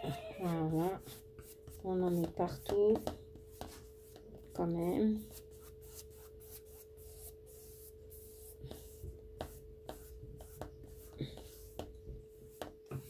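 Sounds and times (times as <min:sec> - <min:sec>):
paintbrush scrubbing canvas: 0:00.0 - 0:13.0.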